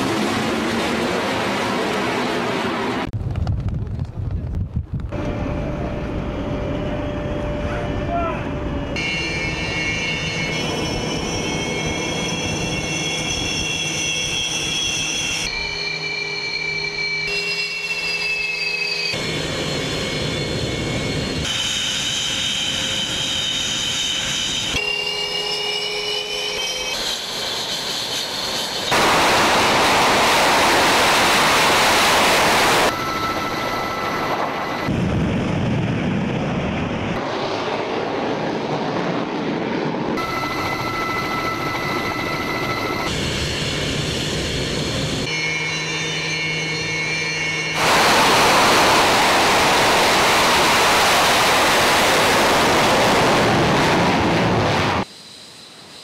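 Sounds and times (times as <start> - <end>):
jet engines whining: 0.0 - 3.1, 5.1 - 56.0
jet engine roar: 0.0 - 56.0.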